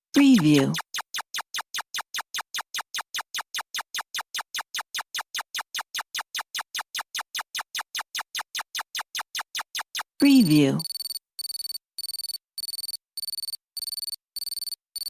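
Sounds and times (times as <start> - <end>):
short digital ticks: 0.8 - 10.2, 10.8 - 15.0.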